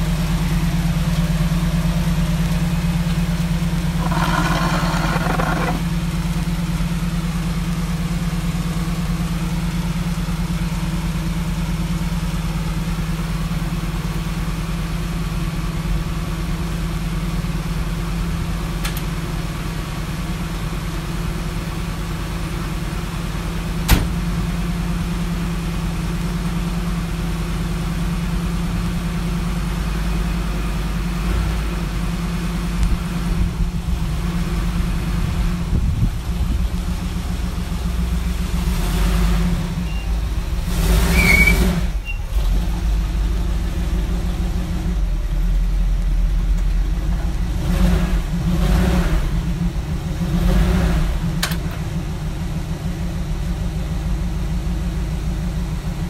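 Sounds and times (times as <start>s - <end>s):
truck engine idling: 0.0s - 48.5s, 51.2s - 56.0s.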